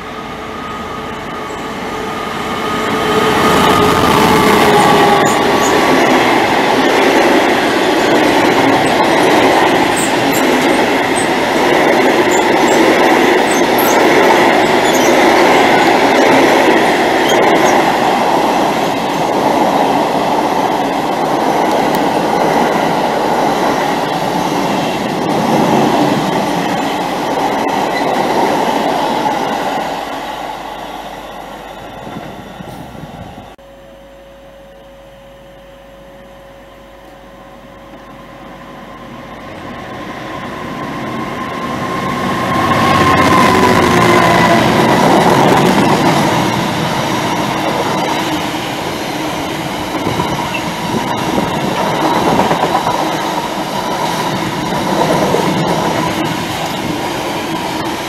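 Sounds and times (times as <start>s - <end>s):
freight train passing: 0.0s - 33.6s, 35.6s - 58.0s.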